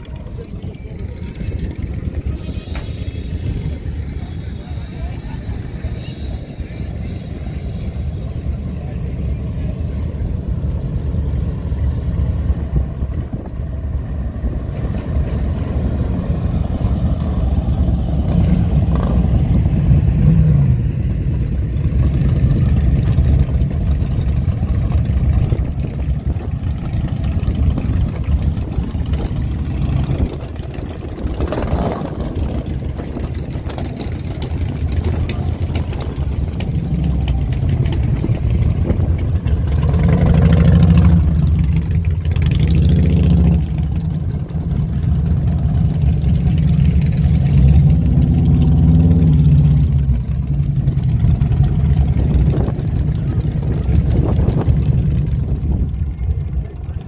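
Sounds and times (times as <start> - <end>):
motorcycles idling and revving: 0.0 - 57.0
motorcycles riding past: 0.0 - 57.0.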